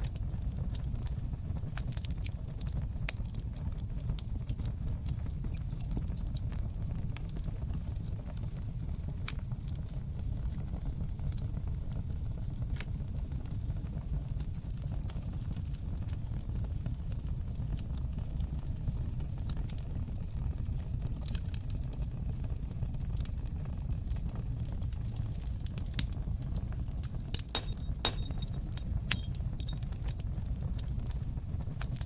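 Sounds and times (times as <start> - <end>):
low sound of flames: 0.0 - 32.0
wood fire crackling and popping: 0.0 - 32.0.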